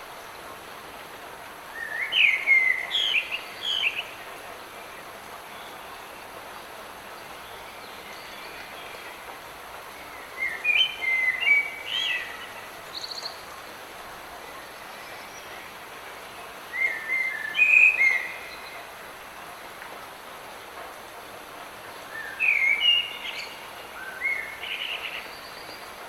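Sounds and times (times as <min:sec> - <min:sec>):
light rain hissing: 0:00.0 - 0:26.0.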